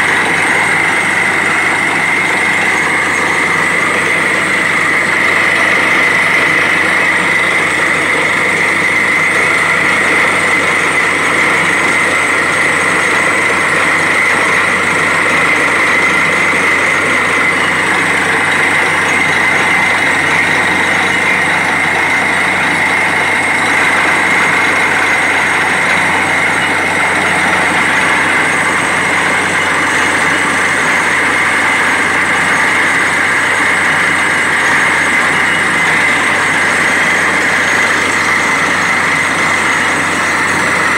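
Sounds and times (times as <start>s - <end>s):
drilling rig running: 0.0s - 40.9s
high machine whine: 0.0s - 40.9s.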